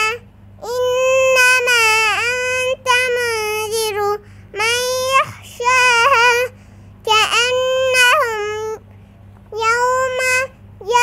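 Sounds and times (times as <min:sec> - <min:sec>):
girl chanting recitation: 0:00.0 - 0:08.9, 0:09.5 - 0:11.0.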